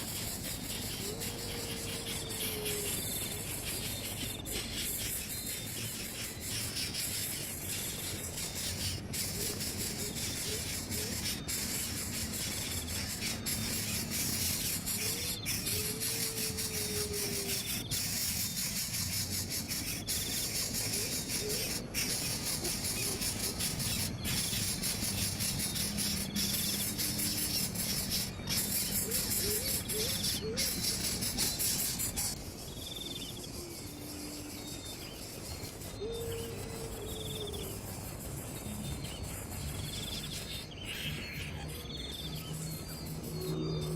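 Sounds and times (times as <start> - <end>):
insects buzzing chorus: 0.0 - 43.9.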